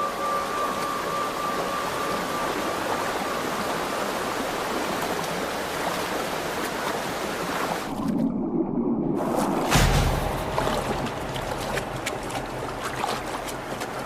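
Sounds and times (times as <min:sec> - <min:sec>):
stream rushing: 0:00.0 - 0:08.2, 0:09.2 - 0:14.0.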